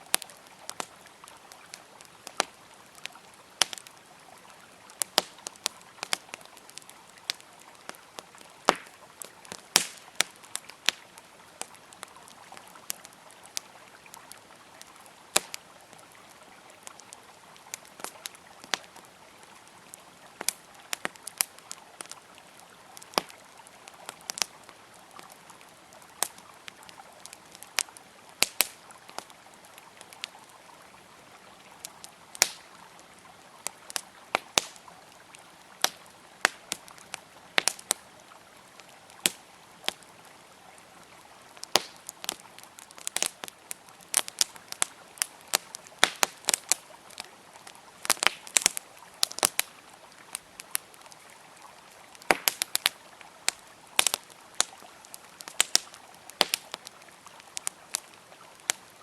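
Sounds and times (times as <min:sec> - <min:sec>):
campfire crackling and popping: 0:00.0 - 0:59.0
river flowing: 0:00.0 - 0:59.0.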